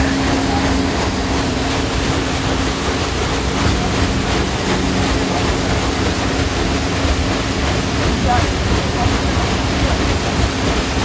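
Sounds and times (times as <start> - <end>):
low machinery hum: 0.0 - 11.0
paddlewheel churning water: 0.0 - 11.0.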